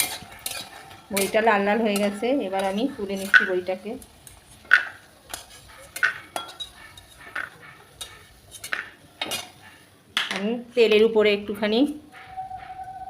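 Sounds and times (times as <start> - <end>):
utensil scraping and tapping a wok: 0.0 - 10.5.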